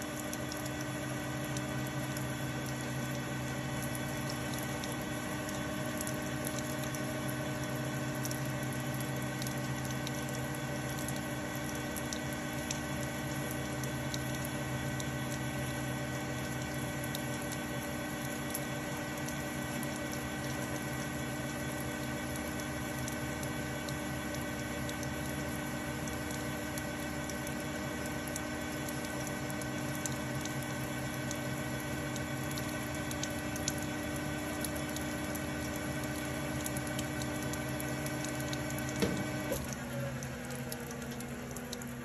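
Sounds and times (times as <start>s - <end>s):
coolant splashing: 0.0s - 42.0s.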